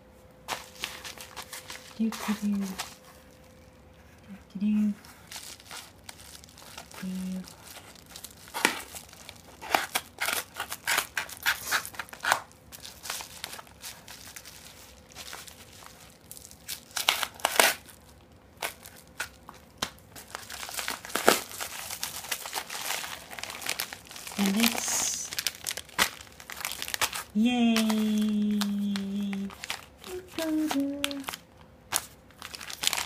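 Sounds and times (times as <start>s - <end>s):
paper crinkling and tearing: 0.5s - 4.2s, 5.0s - 33.0s.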